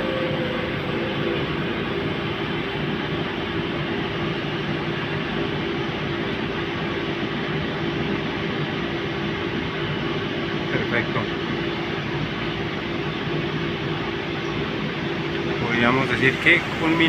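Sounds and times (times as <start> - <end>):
washing machine hum with tones: 0.0 - 17.0.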